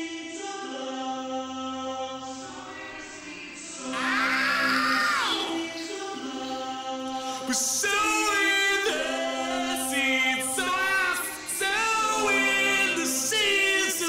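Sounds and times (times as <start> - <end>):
voices singing in harmony: 0.0 - 14.0.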